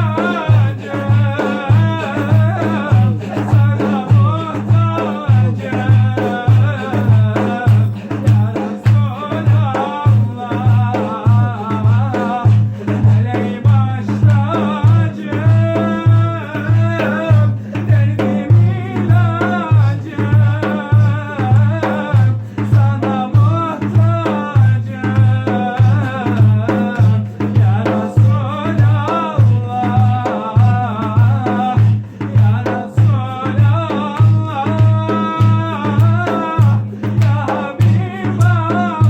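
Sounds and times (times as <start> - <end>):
deep drum beat: 0.0 - 39.0
person singing melismatically: 0.0 - 39.0.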